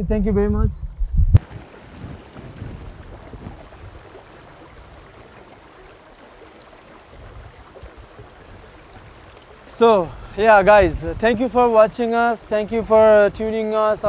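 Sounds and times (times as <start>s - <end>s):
wind on microphone: 0.0s - 14.0s
creek water running over rocks: 1.4s - 14.0s.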